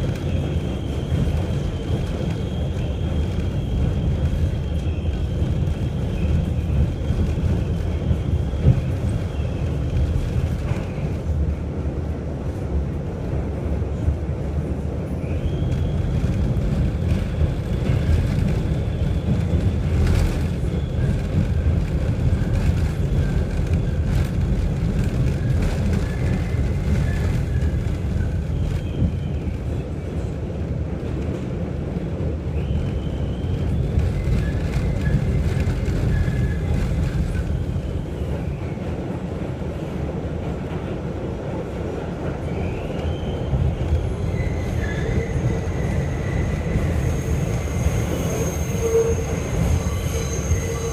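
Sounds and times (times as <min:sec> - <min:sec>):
subway train wheels rumbling: 0:00.0 - 0:50.9.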